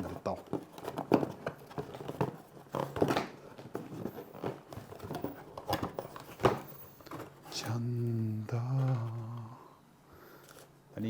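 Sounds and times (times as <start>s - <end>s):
packaging rustling and clicking: 0.0s - 9.5s.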